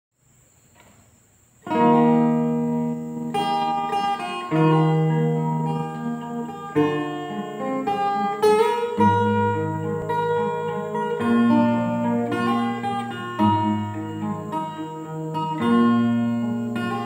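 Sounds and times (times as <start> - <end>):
acoustic guitar chords ringing: 1.6 - 17.0.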